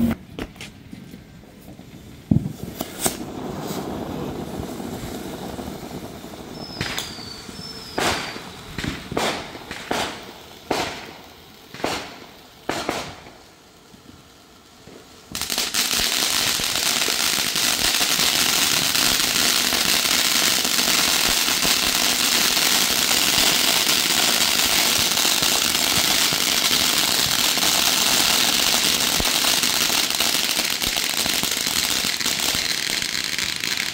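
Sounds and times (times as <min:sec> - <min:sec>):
fireworks fountain crackling: 0:00.0 - 0:33.9.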